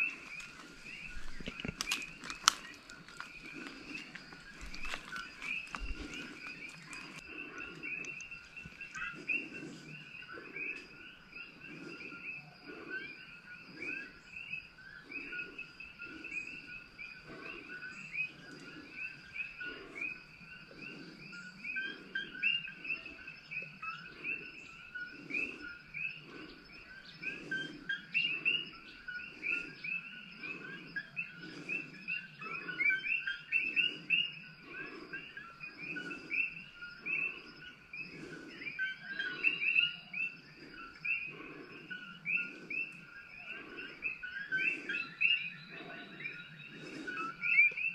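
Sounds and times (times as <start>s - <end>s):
birds and frogs chirping: 0.0s - 47.9s.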